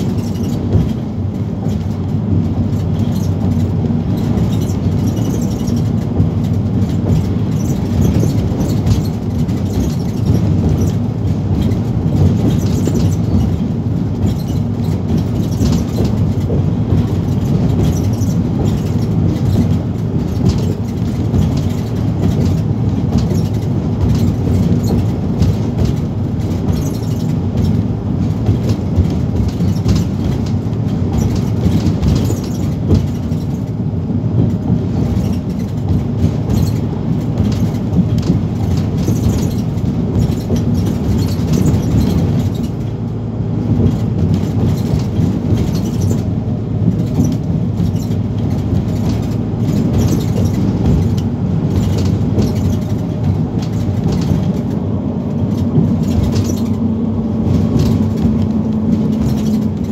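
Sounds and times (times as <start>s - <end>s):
bus engine drone: 0.0s - 59.9s
tyre and road noise: 0.0s - 59.9s.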